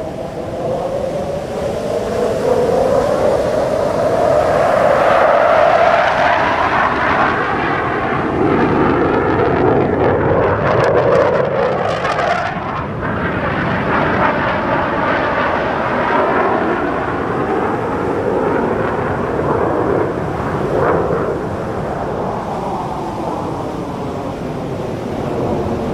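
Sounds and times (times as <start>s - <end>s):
fighter jet engine noise: 0.0s - 25.9s.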